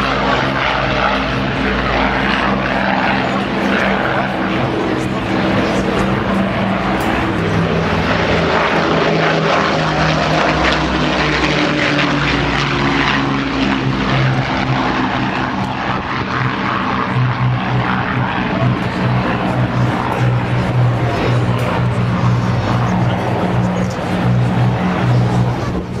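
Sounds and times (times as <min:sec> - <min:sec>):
propeller plane engines droning: 0:00.0 - 0:26.0.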